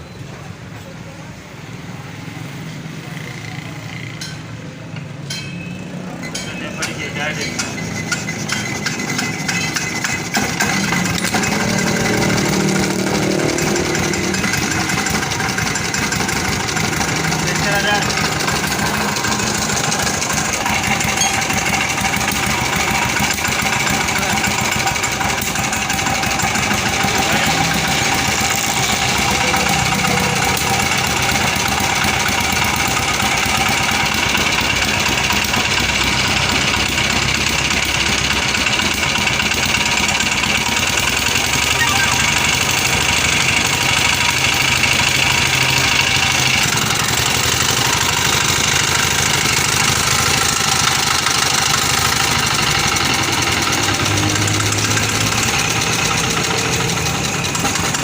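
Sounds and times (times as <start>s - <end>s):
diesel engine running: 0.3s - 58.0s.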